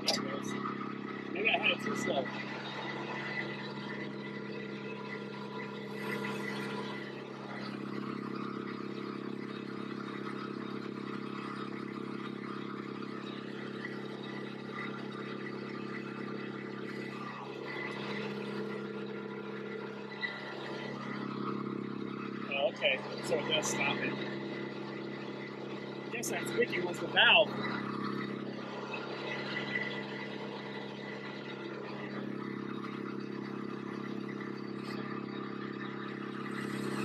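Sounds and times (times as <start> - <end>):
wood chipper engine running: 0.0 - 37.0.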